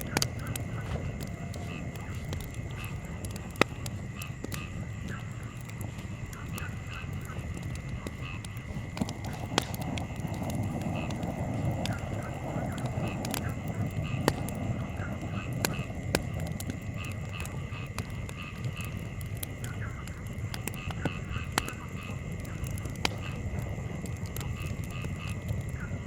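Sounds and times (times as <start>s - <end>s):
breeze rumble: 0.0s - 26.0s
campfire crackling: 0.0s - 26.0s
frogs calling: 0.0s - 26.0s.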